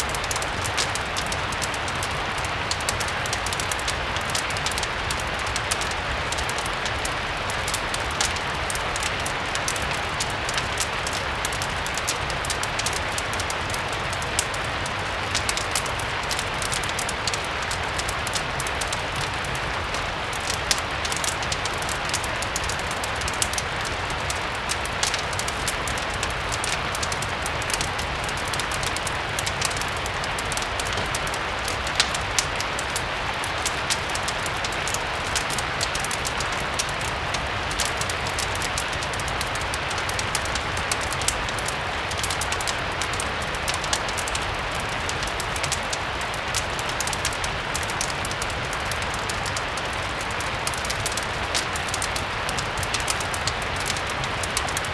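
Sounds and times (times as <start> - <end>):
fire crackling and popping: 0.0 - 54.9
steady rain: 0.0 - 54.9.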